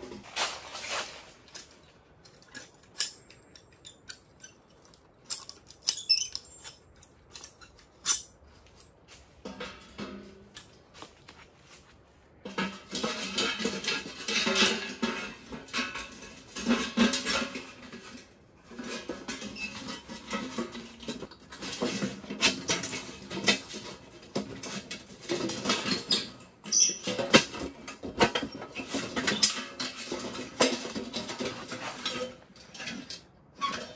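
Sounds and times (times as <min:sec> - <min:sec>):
metal scraping and rattling: 0:00.0 - 0:11.2, 0:12.3 - 0:33.9.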